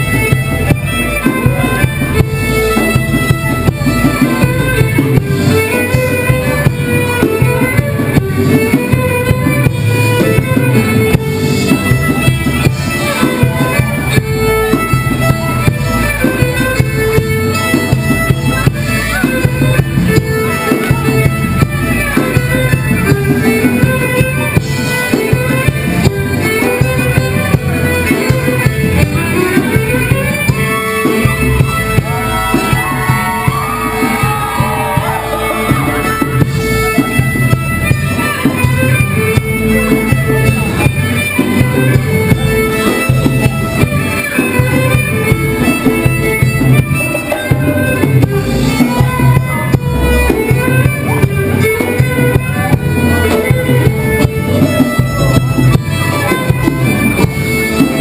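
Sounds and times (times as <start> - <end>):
folk dance music: 0.0 - 58.0.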